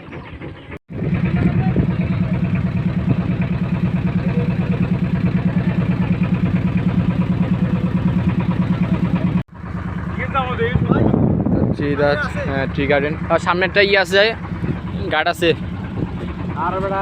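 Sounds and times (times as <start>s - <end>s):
motorboat engine thumping: 0.0s - 17.0s.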